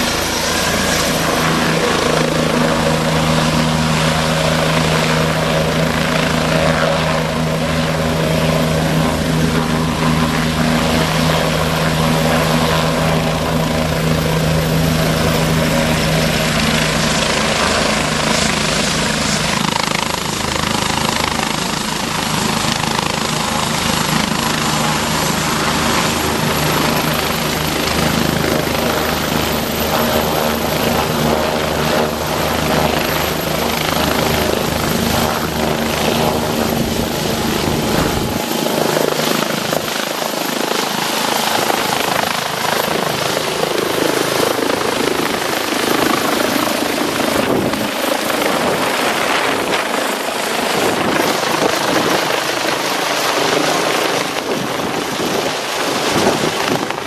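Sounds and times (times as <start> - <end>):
helicopter rotor and turbines: 0.0 - 57.0.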